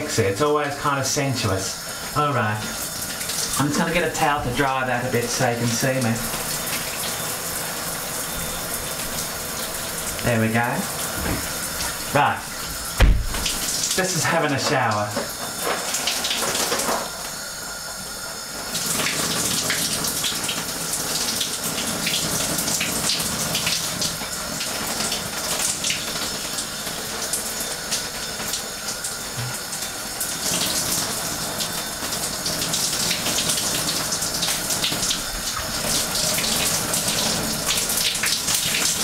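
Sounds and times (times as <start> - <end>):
shower spray splashing: 0.6 - 39.0.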